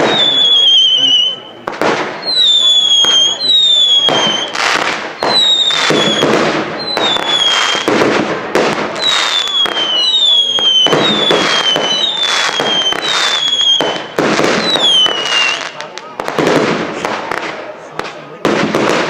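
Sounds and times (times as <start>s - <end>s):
firework cracks and bangs: 0.0s - 19.0s
whistling fireworks: 0.0s - 19.0s.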